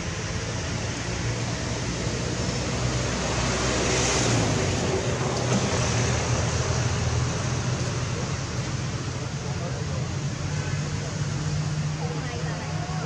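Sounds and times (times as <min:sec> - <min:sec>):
outdoor background rumble and hiss: 0:00.0 - 0:13.0.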